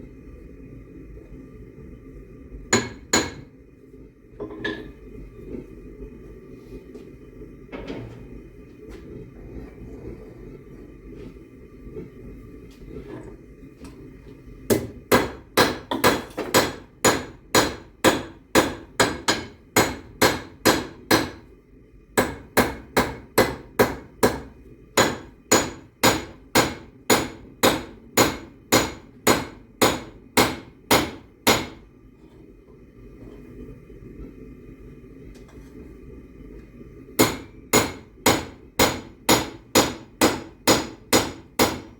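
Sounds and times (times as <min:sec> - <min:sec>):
low forge noise: 0:00.0 - 0:41.9.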